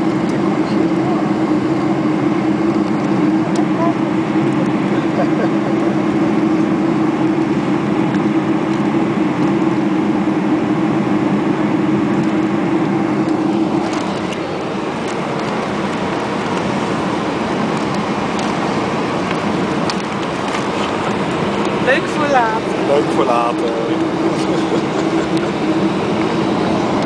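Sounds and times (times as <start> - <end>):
airliner cabin roar: 0.0 - 27.0
low hum: 0.0 - 27.0.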